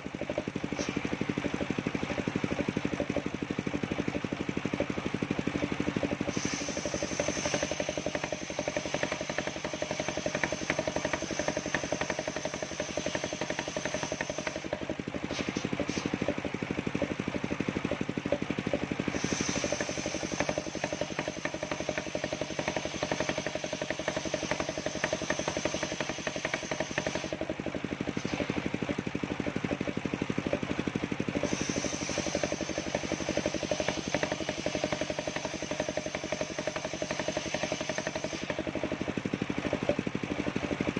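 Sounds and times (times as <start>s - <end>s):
circular saw cutting wood: 0.0s - 29.8s, 30.4s - 40.7s
sawmill engine running: 0.0s - 40.9s.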